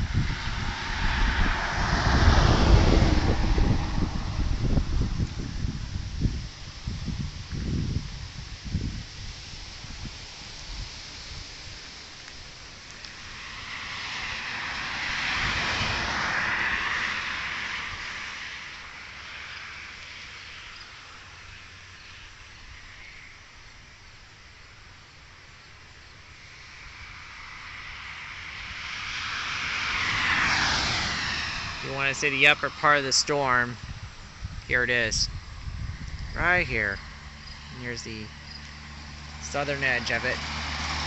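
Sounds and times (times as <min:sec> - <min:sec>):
outdoor background noise: 0:00.0 - 0:41.0
vehicles passing by: 0:00.0 - 0:41.0.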